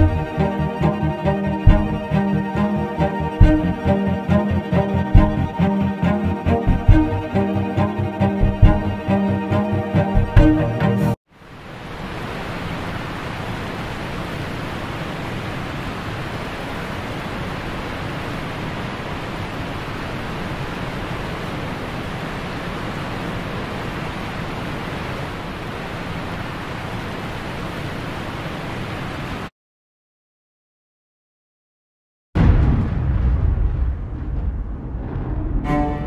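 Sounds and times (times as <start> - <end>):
steady rushing noise: 0.0 - 29.5, 34.0 - 36.0.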